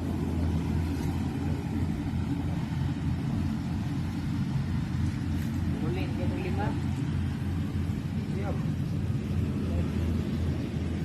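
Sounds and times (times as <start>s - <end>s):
harvester engine running: 0.0s - 11.0s.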